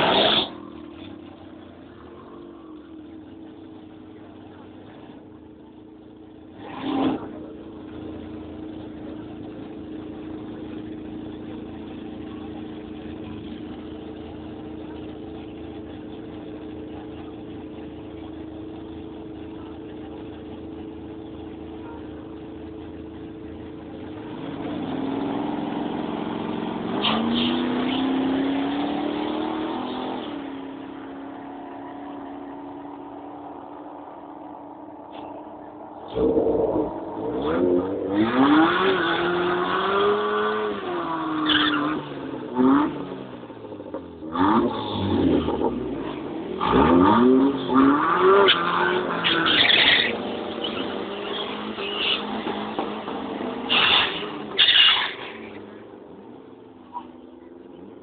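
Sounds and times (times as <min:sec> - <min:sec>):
engine running and revving: 0:00.0 - 0:58.0.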